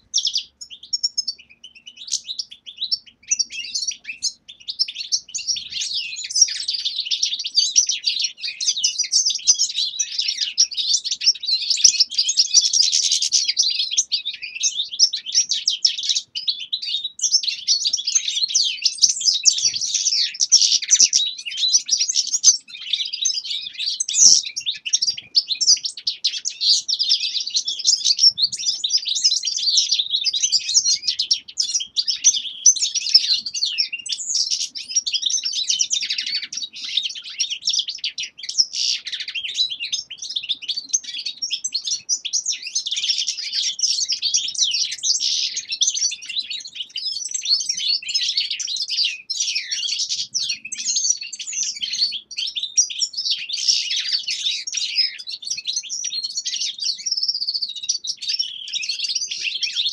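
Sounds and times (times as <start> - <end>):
finches chirping and trilling: 0.0 - 59.9.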